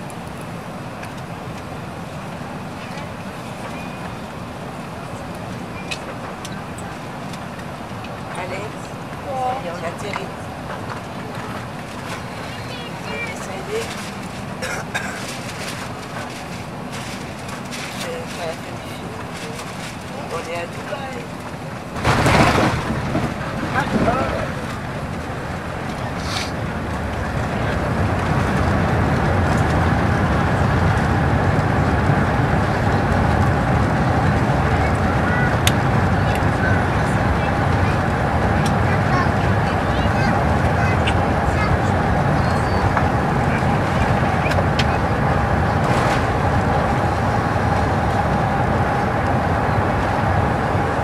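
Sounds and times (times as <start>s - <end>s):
aircraft engines rumbling: 0.0s - 51.0s
plane rolling along runway: 0.0s - 51.0s.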